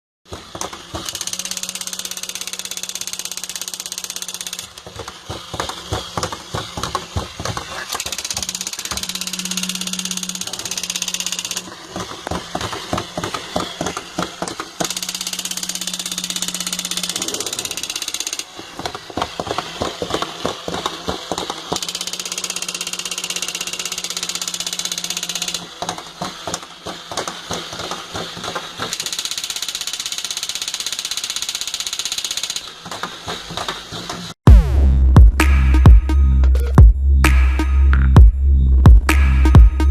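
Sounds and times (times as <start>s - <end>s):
toy gears clicking and whirring: 0.3s - 34.4s.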